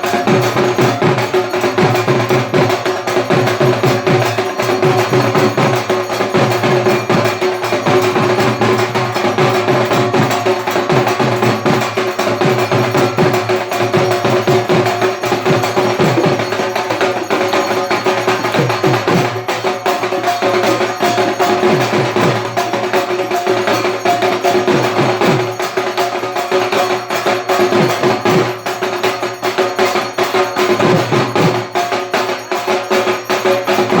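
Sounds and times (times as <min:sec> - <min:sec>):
drums beaten fast with sticks: 0:00.0 - 0:34.0
steady ringing tone: 0:00.0 - 0:34.0.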